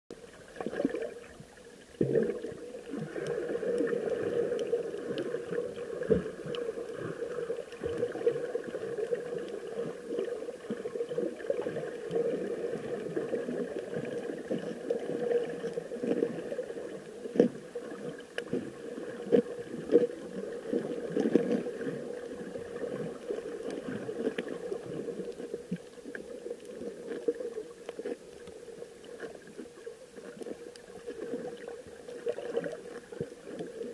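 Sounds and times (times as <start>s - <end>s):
underwater sloshing and gurgling: 0.1s - 33.9s.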